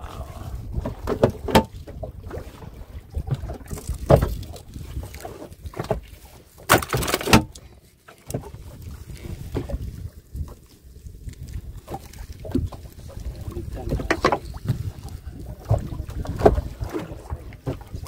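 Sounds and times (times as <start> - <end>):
water splashing: 0.0 - 7.5, 8.2 - 18.0.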